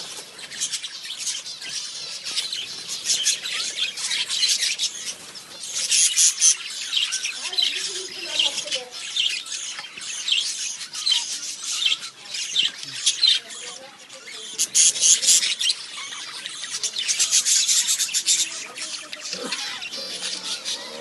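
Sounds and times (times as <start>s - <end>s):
budgerigars chirping and chattering: 0.0s - 21.0s.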